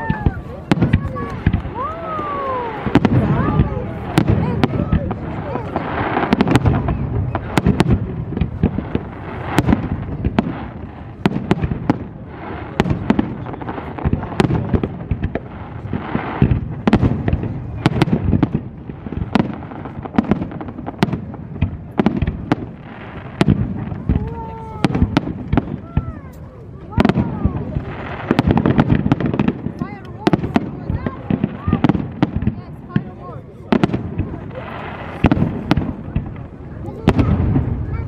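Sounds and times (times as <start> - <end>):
fireworks bursts and bangs: 0.0 - 38.0.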